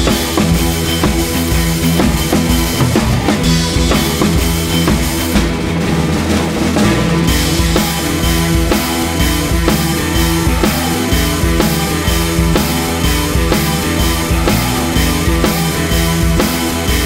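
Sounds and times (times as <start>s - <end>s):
drum kit steady beat: 0.0s - 17.0s.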